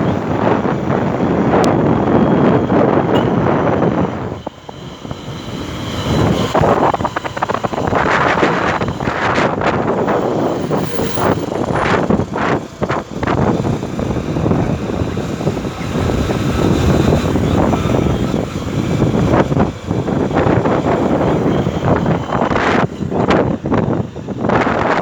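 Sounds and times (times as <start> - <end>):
motorcycle engine: 0.0 - 23.8
road noise: 0.0 - 25.0
wind buffeting microphone: 0.0 - 25.0.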